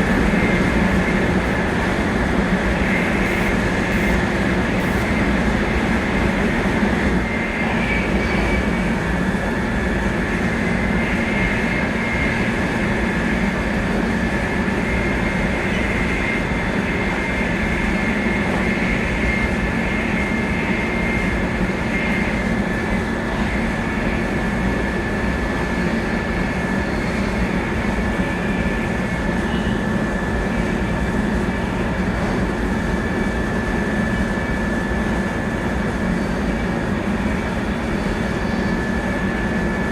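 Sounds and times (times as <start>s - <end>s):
high-pitched whine: 0.0s - 39.9s.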